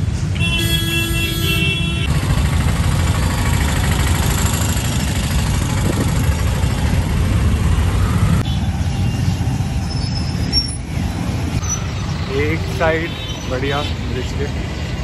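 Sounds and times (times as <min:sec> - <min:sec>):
traffic engines idling and running: 0:00.0 - 0:15.0.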